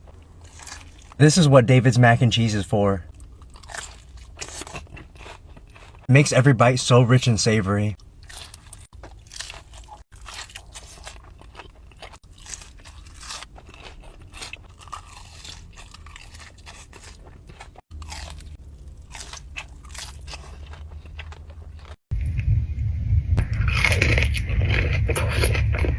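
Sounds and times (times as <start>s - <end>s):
chewing crunchy fried food: 0.0s - 1.5s, 3.0s - 6.1s, 8.0s - 22.0s, 23.4s - 25.9s.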